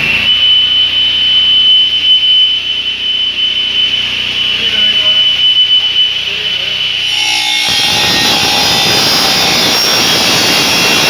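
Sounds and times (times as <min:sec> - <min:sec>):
cutting machine high-pitched whine: 0:00.0 - 0:11.0.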